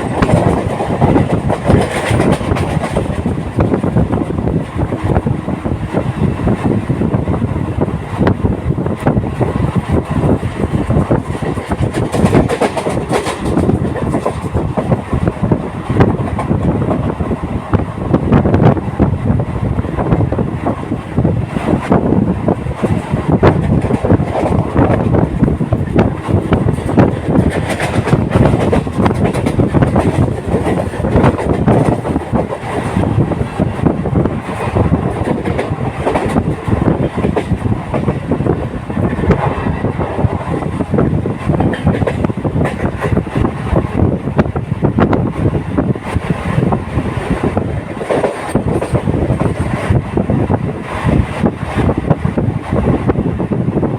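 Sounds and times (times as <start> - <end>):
train rumbling and clattering: 0.0 - 53.9.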